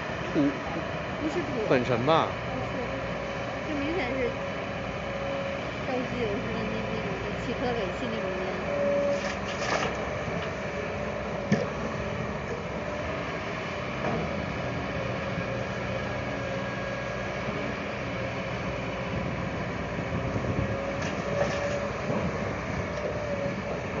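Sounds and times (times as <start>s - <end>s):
constant whine: 0.0s - 24.0s
heavy diesel engine running: 0.0s - 24.0s.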